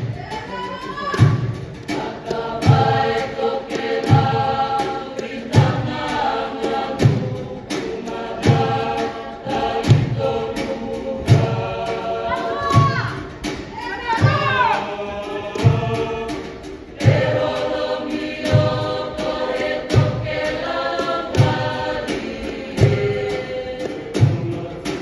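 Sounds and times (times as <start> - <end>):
choir singing in harmony: 0.0 - 25.0
low thud keeping the beat: 0.0 - 25.0.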